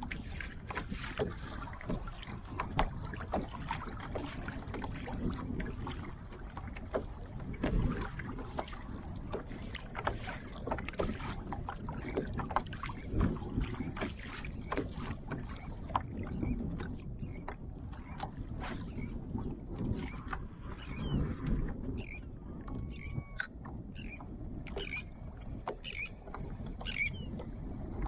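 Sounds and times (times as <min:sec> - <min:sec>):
water splashing around kayak: 0:00.0 - 0:28.0
wind on microphone: 0:00.0 - 0:28.0.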